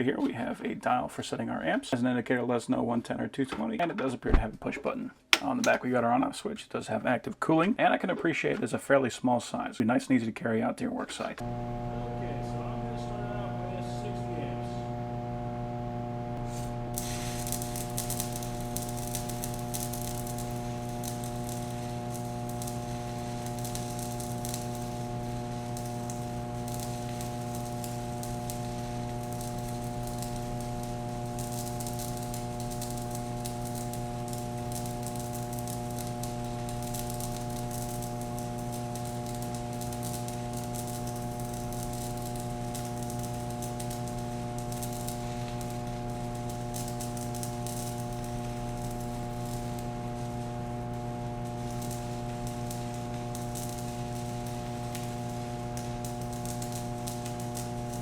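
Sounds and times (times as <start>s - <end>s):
welder electrical hum: 11.2s - 58.0s
welding arc crackling: 11.3s - 58.0s.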